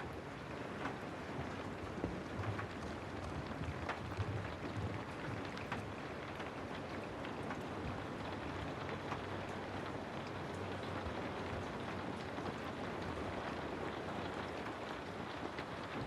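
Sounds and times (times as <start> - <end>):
steady rain hiss: 0.0 - 16.0
raindrops ticking: 0.2 - 16.0.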